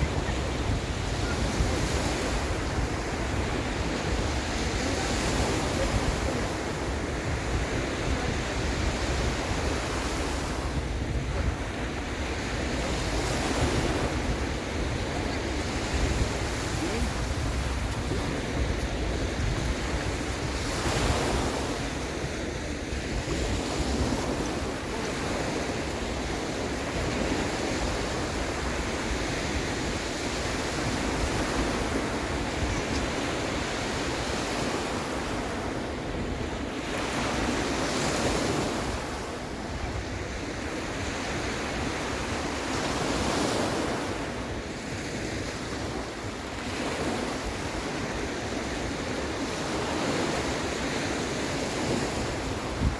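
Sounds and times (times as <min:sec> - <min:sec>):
sea waves breaking: 0:00.0 - 0:52.9
wind rumbling on microphone: 0:00.0 - 0:52.9.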